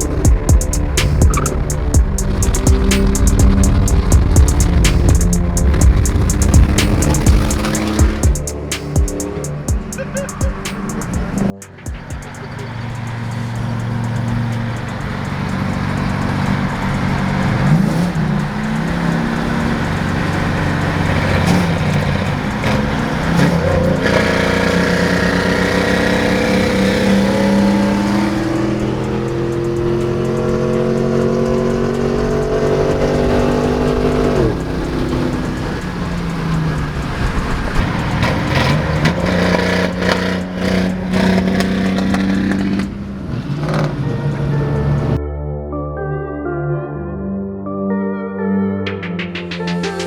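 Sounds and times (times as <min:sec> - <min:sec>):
car engine accelerating: 0:00.0 - 0:45.2.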